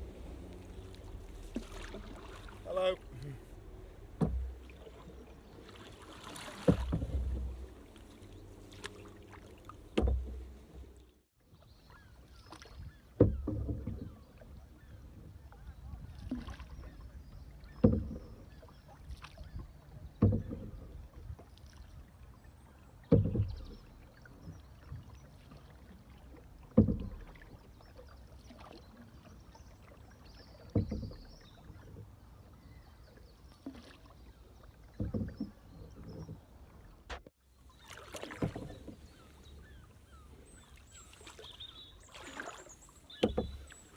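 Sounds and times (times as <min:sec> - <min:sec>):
faint water and wind: 0:00.0 - 0:43.9
paddle splashing water: 0:00.0 - 0:43.9.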